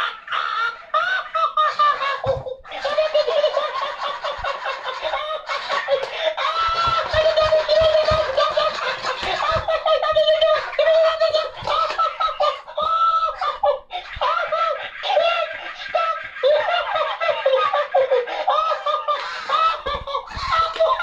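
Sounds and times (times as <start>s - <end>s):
toy laughing and chattering: 0.0s - 21.0s.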